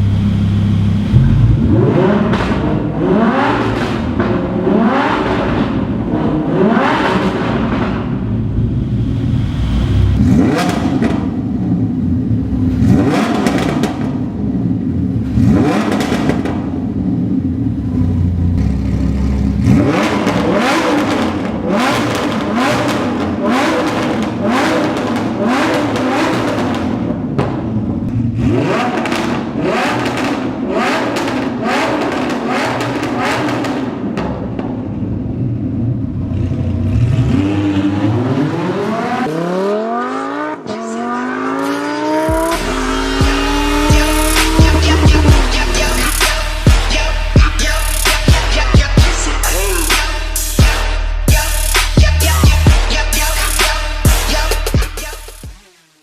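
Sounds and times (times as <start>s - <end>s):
sports car engine revving: 0.0s - 55.5s.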